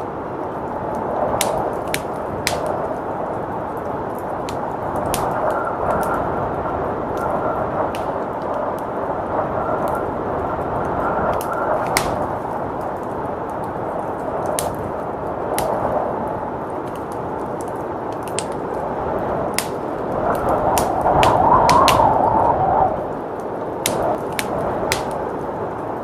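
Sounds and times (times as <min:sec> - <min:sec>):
blizzard wind rushing: 0:00.0 - 0:26.0
wood fire crackling and popping: 0:00.0 - 0:26.0.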